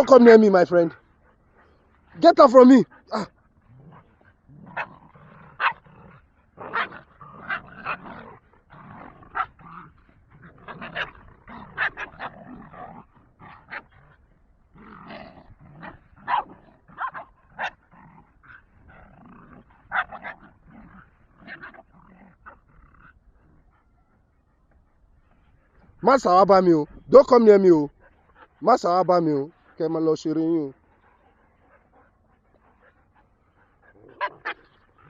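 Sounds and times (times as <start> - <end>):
dogs barking and yipping: 0.0 - 35.0
dogs growling: 0.0 - 35.0.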